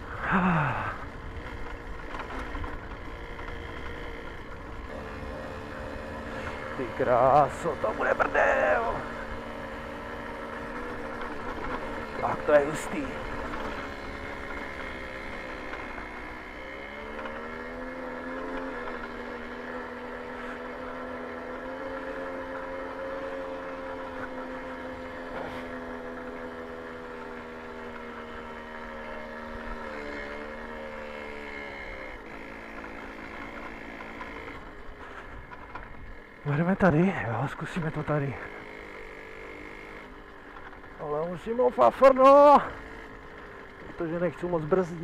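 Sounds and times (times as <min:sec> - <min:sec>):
moped engine running: 0:00.0 - 0:45.0.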